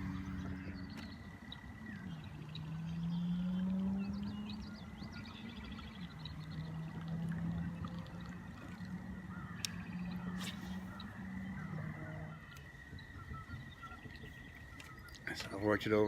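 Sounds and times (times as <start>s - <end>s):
low wavering hum: 0.0s - 15.3s
faint bird calls: 0.0s - 16.0s.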